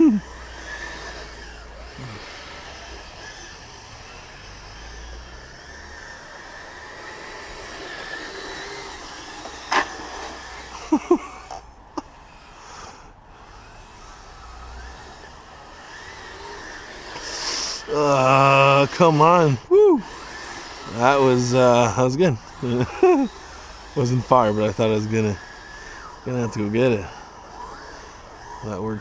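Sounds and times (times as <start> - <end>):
tracks driving through snow: 0.0 - 11.7, 12.4 - 29.0
electric motor whine: 0.0 - 29.0.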